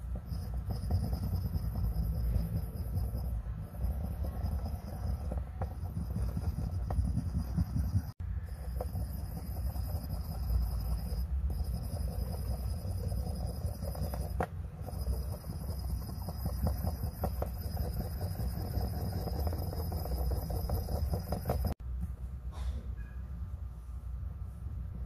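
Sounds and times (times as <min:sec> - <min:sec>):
faint high steady tones: 0:00.0 - 0:21.8
stick scratching on coin: 0:00.0 - 0:21.8
low background rumble: 0:00.0 - 0:25.0.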